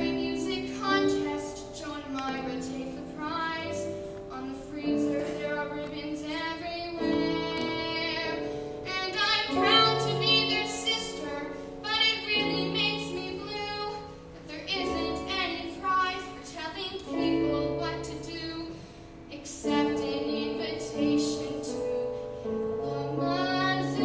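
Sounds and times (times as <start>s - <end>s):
girl singing with vibrato: 0.0s - 24.0s
musical accompaniment: 0.0s - 24.0s.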